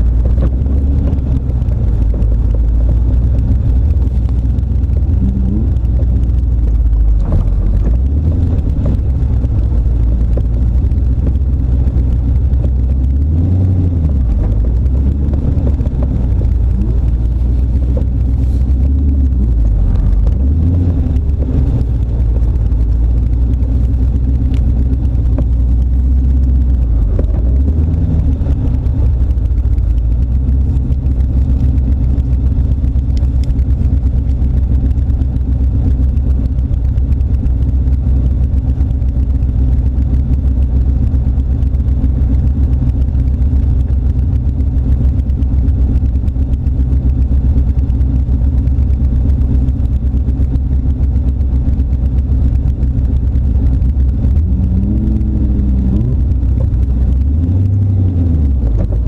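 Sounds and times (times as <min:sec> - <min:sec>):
car engine running at low revs: 0:00.0 - 0:59.0.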